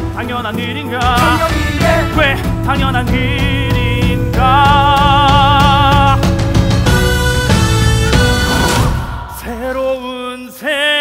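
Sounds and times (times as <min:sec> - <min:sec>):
drum hits: 0:00.0 - 0:10.3
band holding chords: 0:00.0 - 0:10.4.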